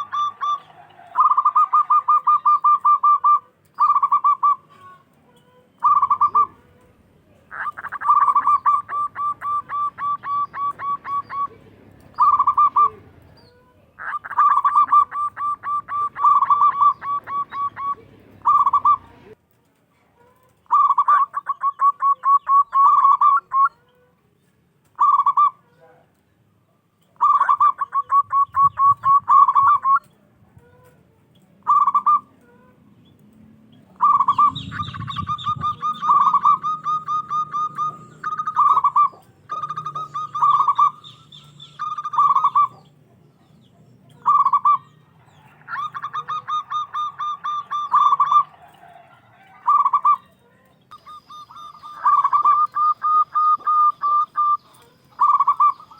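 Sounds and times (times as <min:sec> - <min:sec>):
dove cooing: 0:00.0 - 0:19.4, 0:20.4 - 0:24.1, 0:24.9 - 0:26.0, 0:27.1 - 0:31.0, 0:31.6 - 0:32.8, 0:33.8 - 0:55.9.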